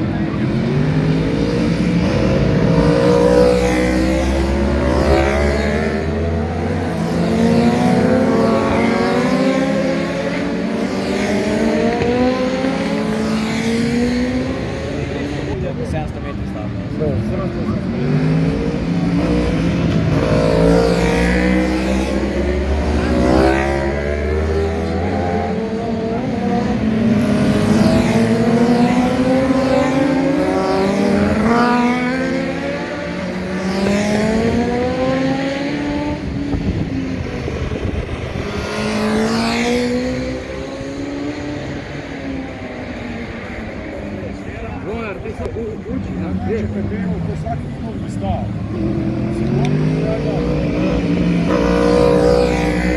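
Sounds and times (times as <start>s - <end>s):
racing motorcycles revving: 0.0s - 52.9s.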